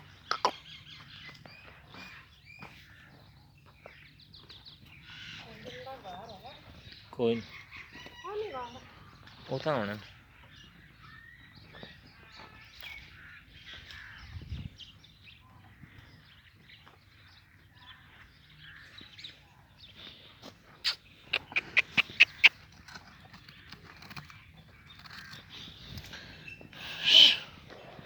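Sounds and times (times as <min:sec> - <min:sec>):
harsh bird calls: 0:00.0 - 0:28.0
faint animal noises: 0:04.8 - 0:28.0.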